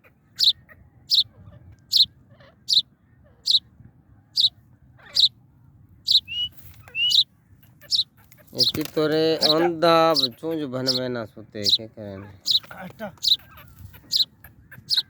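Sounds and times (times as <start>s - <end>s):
partridge calling: 0.0s - 3.7s, 4.3s - 5.4s, 6.0s - 15.0s.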